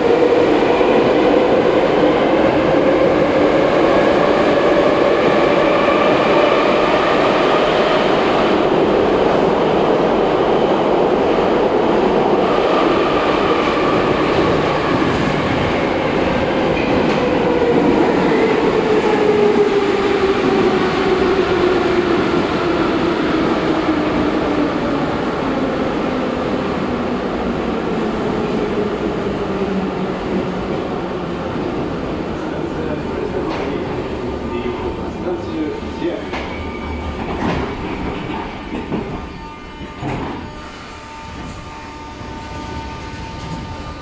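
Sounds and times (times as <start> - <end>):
train wheels rumbling: 0.0 - 44.0.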